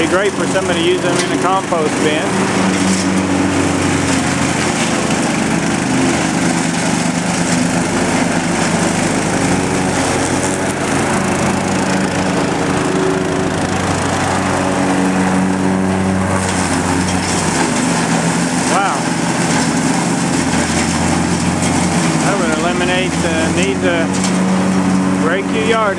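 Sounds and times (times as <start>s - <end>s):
lawn mower engine running: 0.0s - 25.9s.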